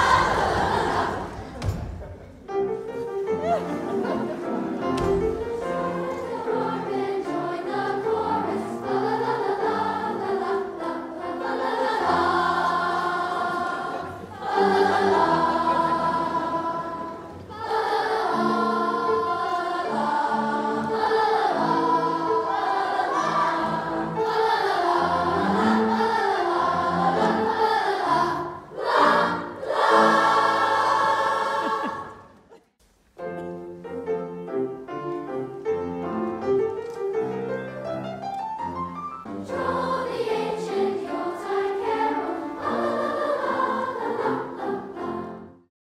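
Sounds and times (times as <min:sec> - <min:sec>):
piano accompaniment: 0:00.0 - 0:32.2, 0:33.2 - 0:45.7
children's choir singing: 0:00.0 - 0:32.6, 0:38.6 - 0:45.7.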